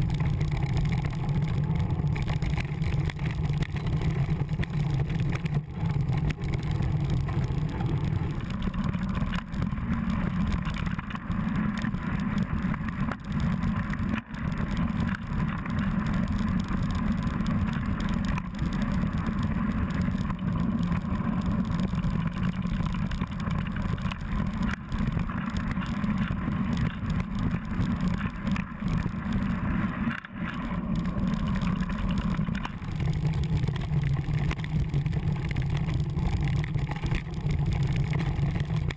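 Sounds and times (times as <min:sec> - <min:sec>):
bike rattling over stones: 0:00.0 - 0:38.9.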